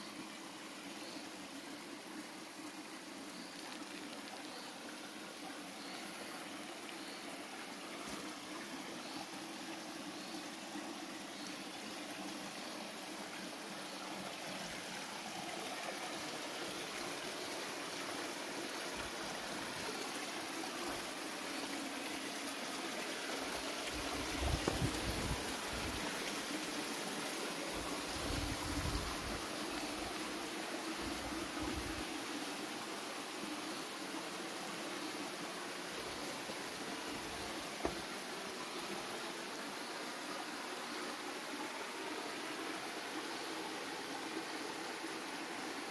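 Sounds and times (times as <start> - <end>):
stream trickling over rocks: 0.0 - 45.9.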